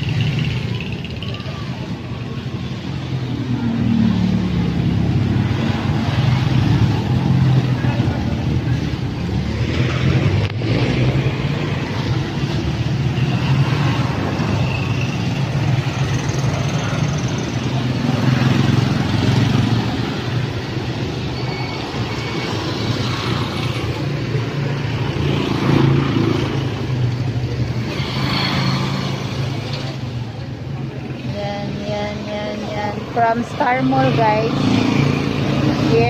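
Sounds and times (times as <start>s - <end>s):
low hum of traffic: 0.0s - 36.0s
motorcycle engines passing: 0.0s - 36.0s.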